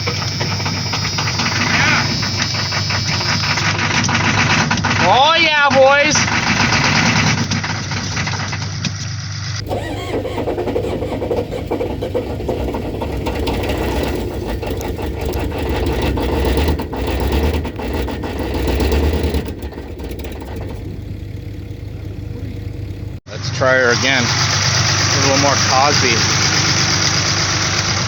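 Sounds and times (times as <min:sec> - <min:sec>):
diesel engine running rough: 0:00.0 - 0:28.0.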